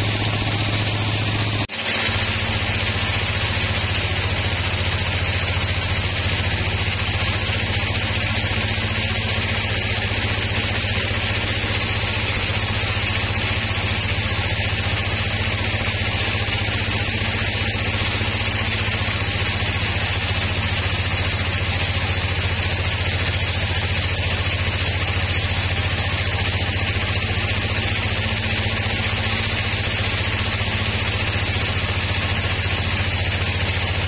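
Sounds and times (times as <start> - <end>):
band saw running: 0.0 - 34.0.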